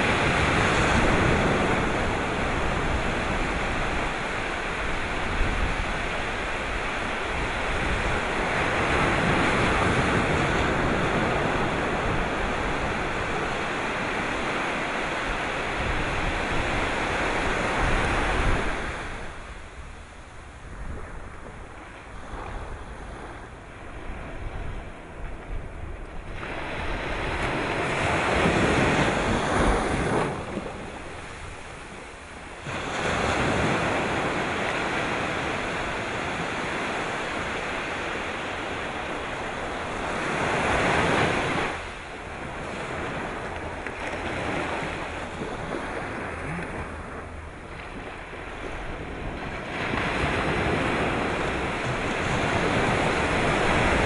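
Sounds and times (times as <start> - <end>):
sea waves breaking: 0.0 - 54.0.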